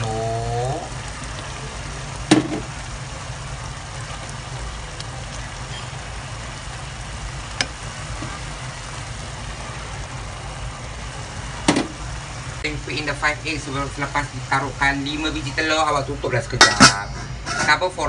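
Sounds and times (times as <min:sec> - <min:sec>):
sauce simmering in pan: 0:00.0 - 0:17.8.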